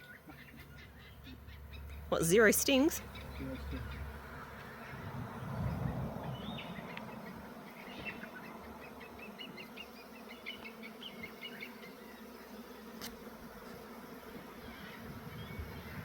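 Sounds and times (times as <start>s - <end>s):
small birds chirping: 0.0s - 13.1s, 14.2s - 16.0s
honeybees humming: 0.0s - 16.0s.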